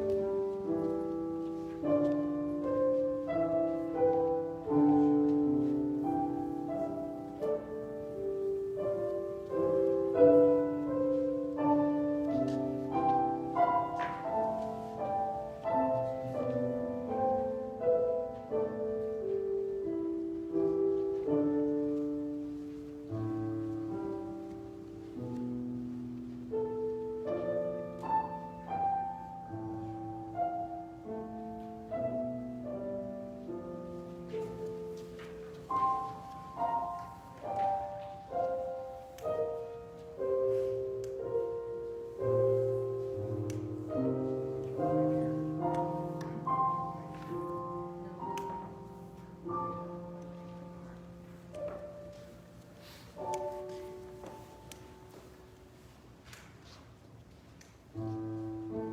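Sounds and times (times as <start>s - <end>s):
solo piano piece: 0.0s - 58.9s.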